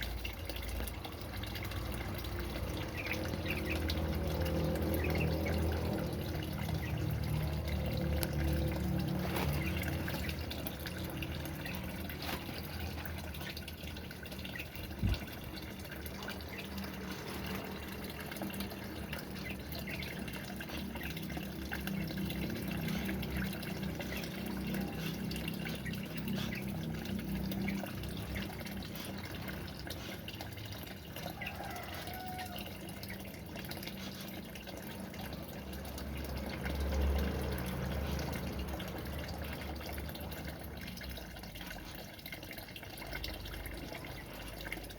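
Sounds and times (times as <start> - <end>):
water running and dripping: 0.0 - 44.9.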